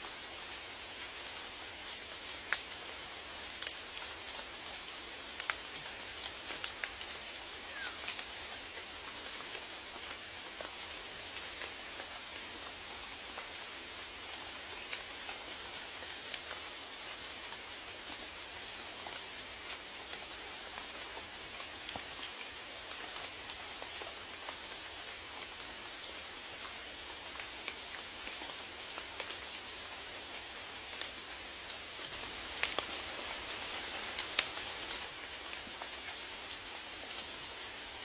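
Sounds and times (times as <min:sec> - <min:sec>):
steady rain hiss: 0:00.0 - 0:38.0.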